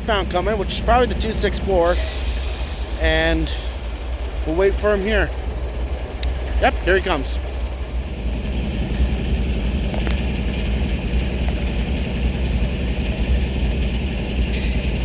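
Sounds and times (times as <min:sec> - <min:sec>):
diesel locomotive engines rumbling: 0:00.0 - 0:15.0.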